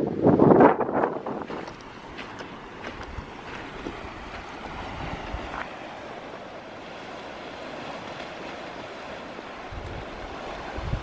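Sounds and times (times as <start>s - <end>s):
wind gusts bumping microphone: 0.0s - 11.0s
sea washing over rocks: 0.1s - 11.0s.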